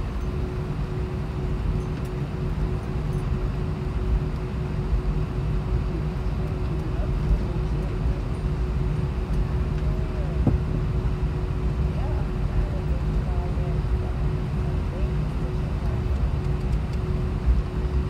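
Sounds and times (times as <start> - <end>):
aircraft cabin rumble: 0.0 - 18.0
constant hum: 0.0 - 18.0.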